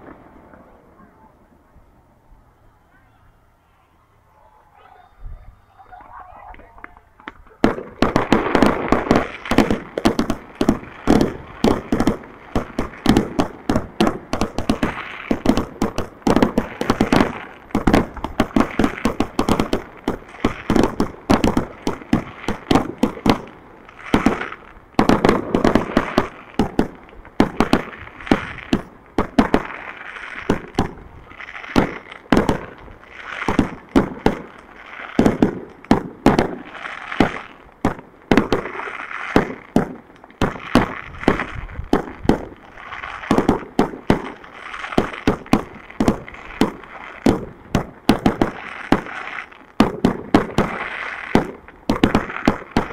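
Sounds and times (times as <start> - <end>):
fireworks bangs and crackling pops: 0.0 - 0.8, 6.0 - 52.9.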